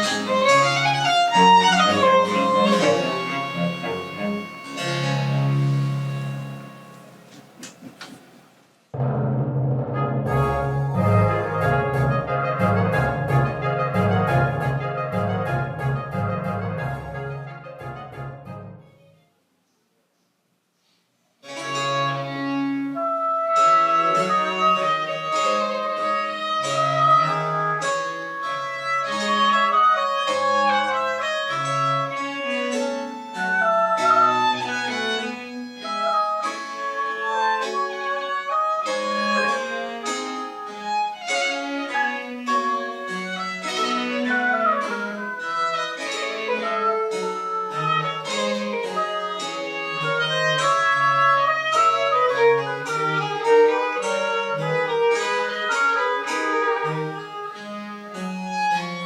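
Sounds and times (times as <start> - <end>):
baroque chamber ensemble playing: 0.0 - 8.4, 10.4 - 18.8, 21.4 - 59.0.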